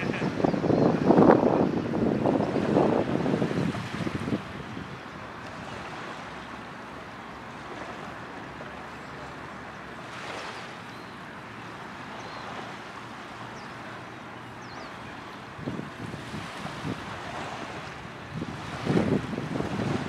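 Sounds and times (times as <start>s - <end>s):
surf on a beach: 0.0s - 20.0s
wind: 0.0s - 20.0s.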